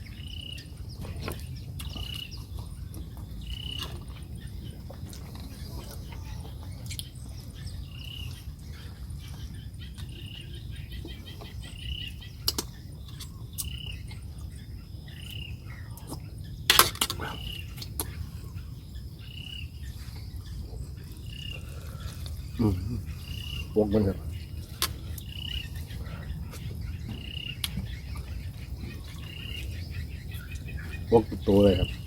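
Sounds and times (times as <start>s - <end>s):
high chirping animal call: 0.0s - 32.0s
steady low rumble: 0.0s - 32.0s.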